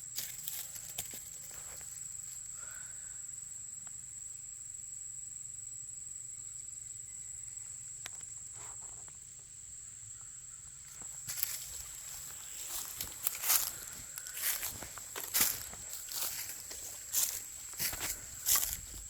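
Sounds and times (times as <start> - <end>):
crickets chirping chorus: 0.0 - 19.0.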